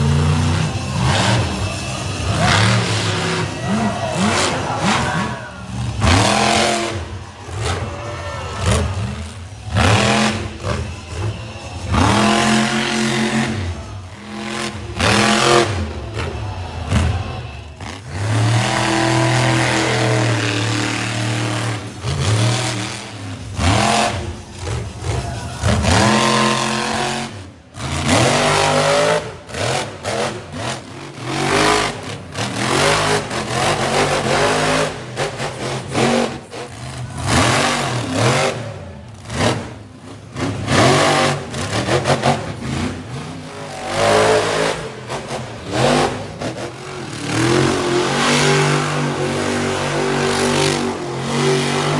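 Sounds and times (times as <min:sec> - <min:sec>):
truck engines revving: 0:00.0 - 0:51.9.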